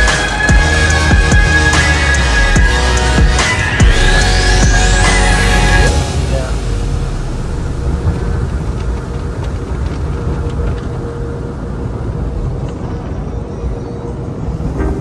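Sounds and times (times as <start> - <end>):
car wash equipment rumbling: 0.0 - 12.9.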